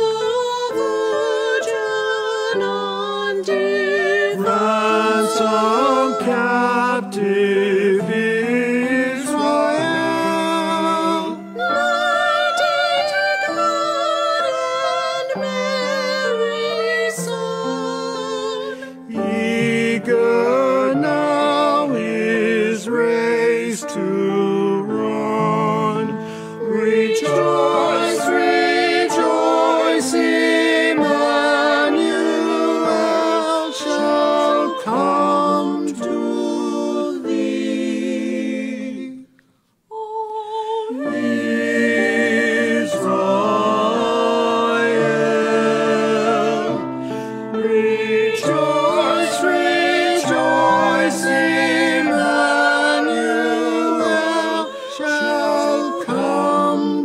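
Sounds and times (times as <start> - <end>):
piano accompaniment: 0.0 - 38.6, 41.0 - 57.0
small choir singing a hymn: 0.0 - 57.0.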